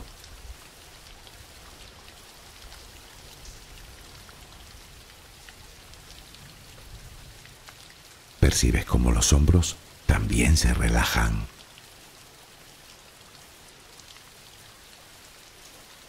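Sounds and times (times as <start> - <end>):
faint raindrop ticks: 0.0 - 9.2, 9.8 - 16.0
steady rain hiss: 0.0 - 16.0.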